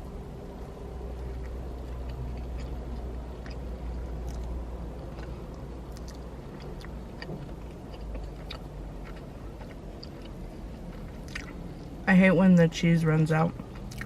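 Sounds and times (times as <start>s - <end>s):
low steady hum: 0.0s - 14.0s
person chewing food: 0.5s - 12.0s, 13.6s - 14.0s.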